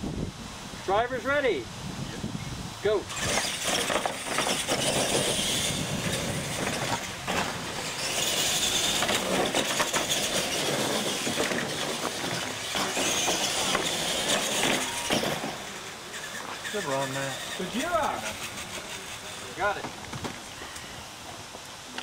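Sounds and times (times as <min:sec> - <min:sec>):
toy truck motors whining: 0:03.0 - 0:21.3
trucks clattering over ramps: 0:03.1 - 0:21.4
tyres running on asphalt: 0:03.1 - 0:22.0.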